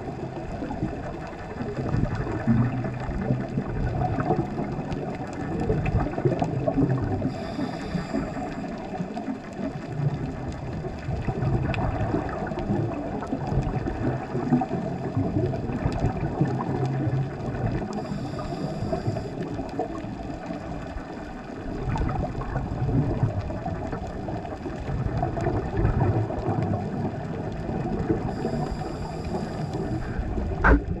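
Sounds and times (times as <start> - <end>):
faint clicks and crackles: 0.0 - 31.0
underwater rumble of moving water: 0.0 - 31.0.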